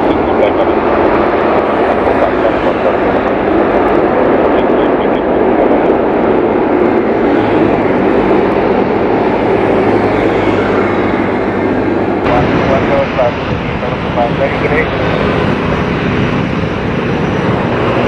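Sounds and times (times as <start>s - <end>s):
jet engines at low thrust: 0.0s - 18.0s.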